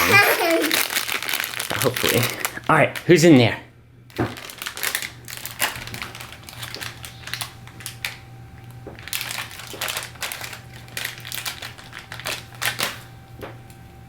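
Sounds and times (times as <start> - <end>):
plastic packet crinkling and tearing: 0.0 - 3.2, 4.1 - 13.2.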